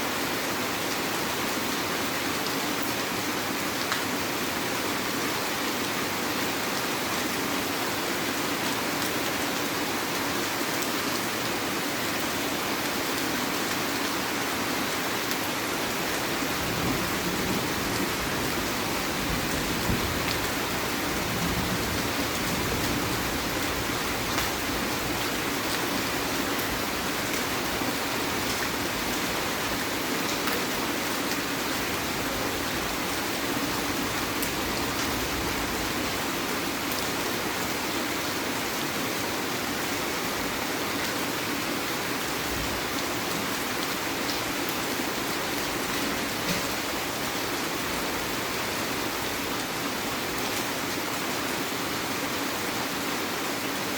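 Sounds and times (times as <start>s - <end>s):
heavy rain falling: 0.1s - 53.9s.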